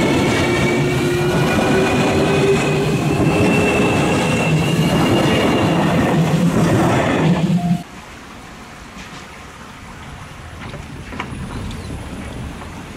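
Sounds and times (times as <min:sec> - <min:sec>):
electric train rolling past: 0:00.0 - 0:12.9.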